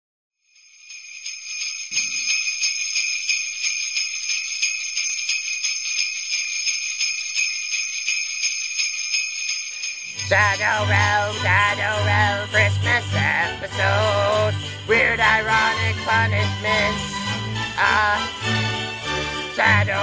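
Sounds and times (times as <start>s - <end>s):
sleigh bells jingling: 0.4s - 20.0s.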